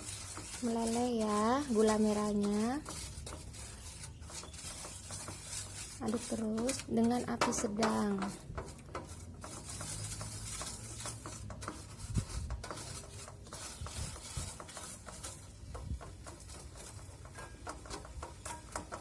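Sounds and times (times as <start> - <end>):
utensil scraping in a pot: 0.0 - 19.0.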